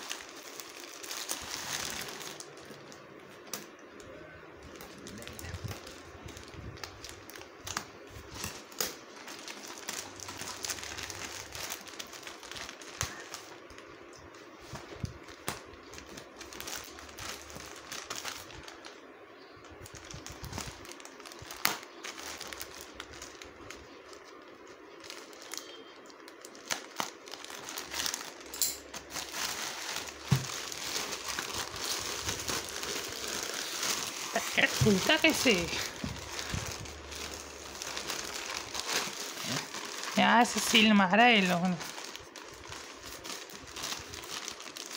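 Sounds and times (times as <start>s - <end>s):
plastic bag crinkling: 0.0s - 44.9s.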